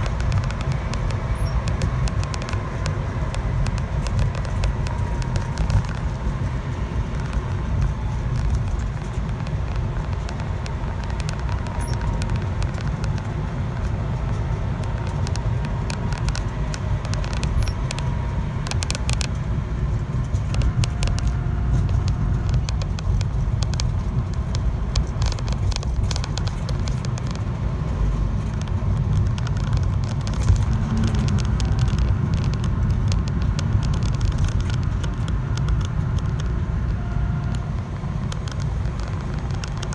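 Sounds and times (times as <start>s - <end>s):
sharp ticks and clicks: 0.0s - 39.9s
vehicle rumbling in motion: 0.0s - 39.9s.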